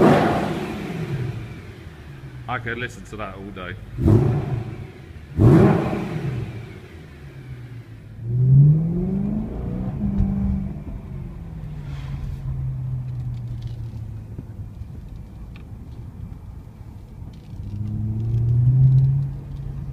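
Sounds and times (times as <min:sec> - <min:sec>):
car engine idling: 0:00.0 - 0:19.9
car engine revving: 0:00.0 - 0:19.9.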